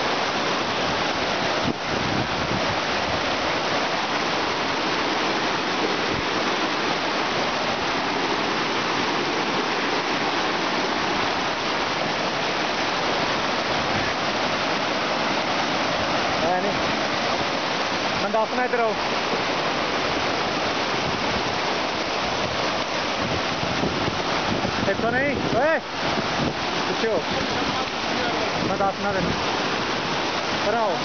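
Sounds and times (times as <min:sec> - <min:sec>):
stream rushing over rocks: 0:00.0 - 0:31.0.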